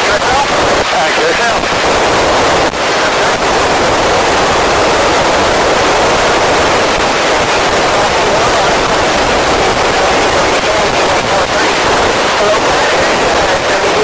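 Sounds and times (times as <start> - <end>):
radio receiver hiss: 0.0 - 14.0.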